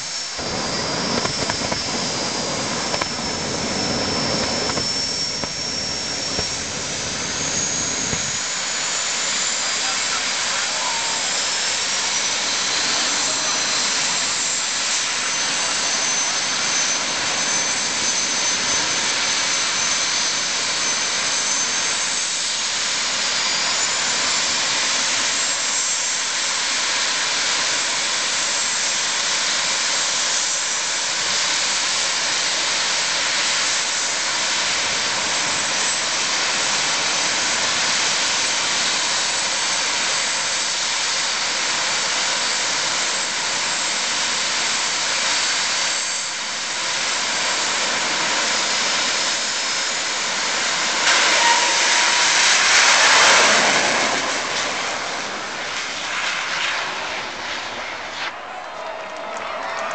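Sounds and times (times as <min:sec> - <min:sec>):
jet turbine hissing: 0:00.0 - 0:58.4
high turbine whine: 0:00.0 - 0:59.9.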